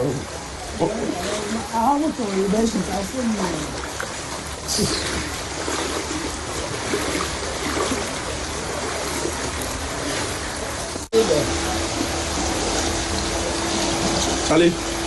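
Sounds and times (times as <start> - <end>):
floodwater rushing and splashing: 0.0 - 15.0
steady hum: 0.0 - 15.0.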